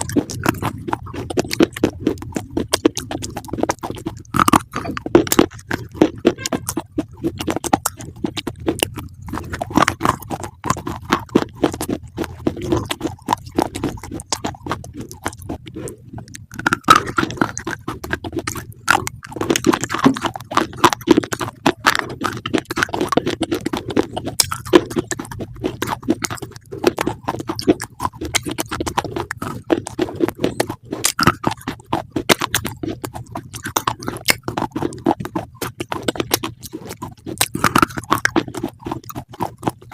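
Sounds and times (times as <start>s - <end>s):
animal chewing crunchy greens: 0.0s - 39.9s.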